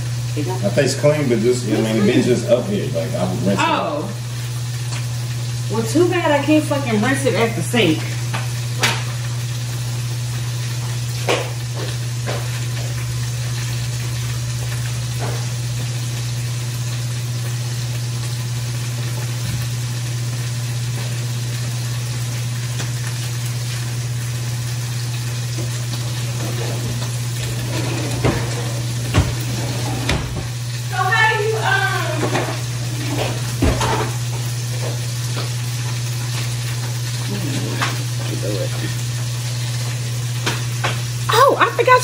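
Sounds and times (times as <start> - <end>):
juicer motor running: 0.0 - 42.0.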